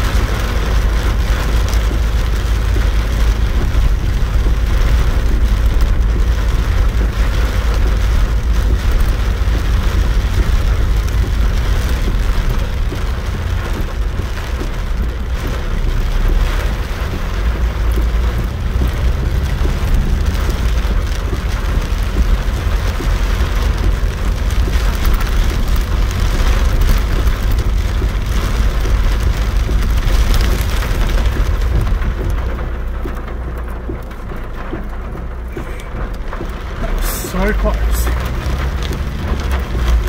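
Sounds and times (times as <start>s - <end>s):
heavy rain on car roof: 0.0s - 40.0s
low engine and road rumble: 0.0s - 40.0s.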